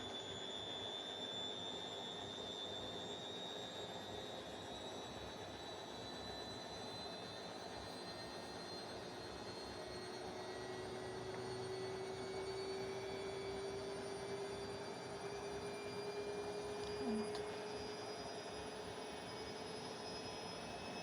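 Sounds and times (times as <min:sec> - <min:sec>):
washing machine spinning hum: 0:03.6 - 0:21.0.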